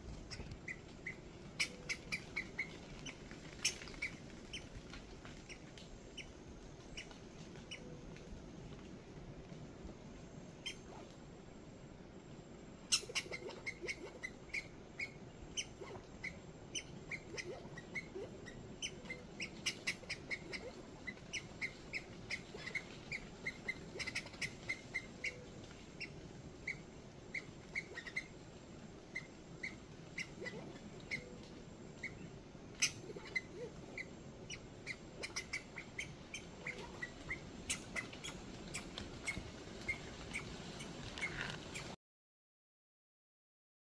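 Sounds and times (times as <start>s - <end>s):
small animal chirping: 0.2s - 7.9s, 10.6s - 11.2s, 12.8s - 42.0s.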